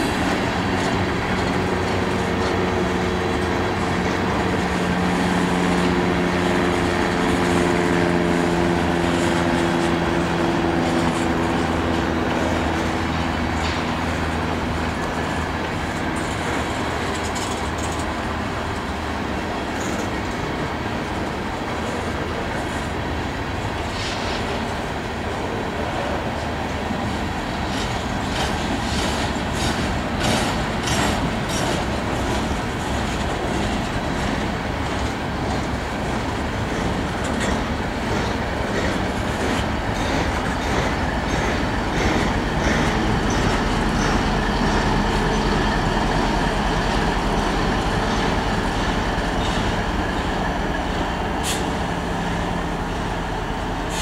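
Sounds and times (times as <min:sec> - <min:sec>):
diesel locomotive engine humming: 0:00.0 - 0:54.0
train wheels clicking over rail joints: 0:00.0 - 0:54.0.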